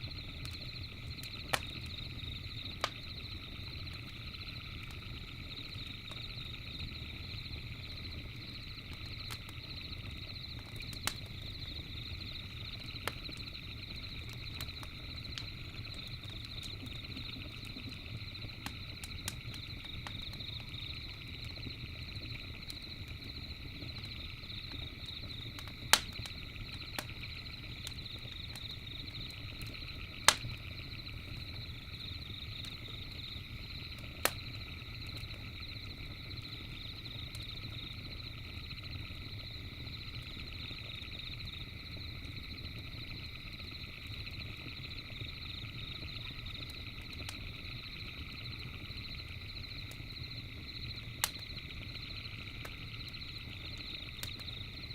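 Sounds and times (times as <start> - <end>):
campfire crackling and popping: 0.0 - 54.9
chorus of night creatures: 0.1 - 54.9.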